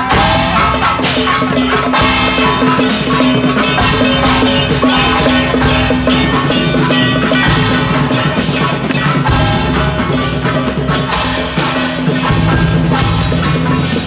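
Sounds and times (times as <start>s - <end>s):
loud music with drums: 0.0s - 14.0s.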